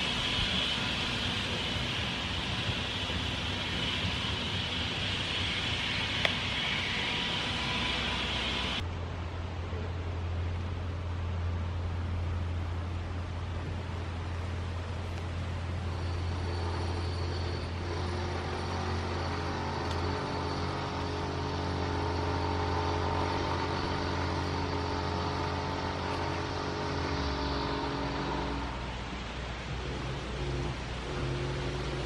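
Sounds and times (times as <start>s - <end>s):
constant low hum: 0.0s - 32.0s
engine running: 0.0s - 32.0s.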